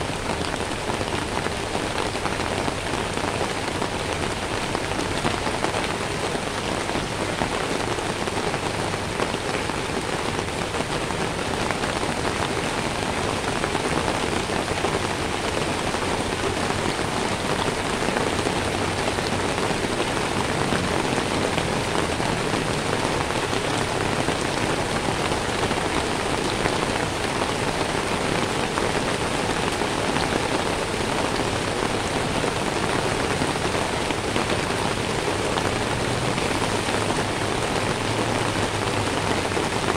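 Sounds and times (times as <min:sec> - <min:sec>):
rain on wet pavement: 0:00.0 - 0:39.9.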